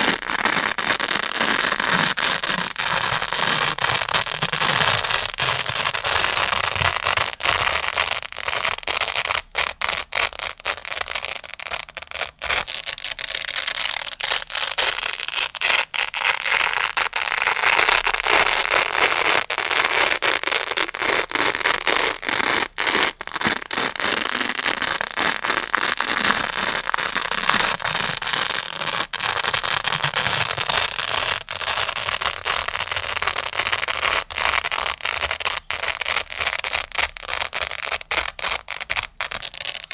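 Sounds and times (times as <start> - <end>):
velcro pad crunching: 0.0 - 39.9.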